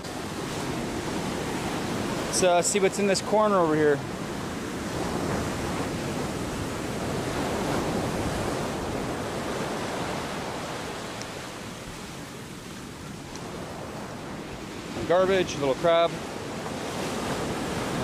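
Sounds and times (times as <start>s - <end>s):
ocean surf washing onto beach: 0.0s - 18.0s.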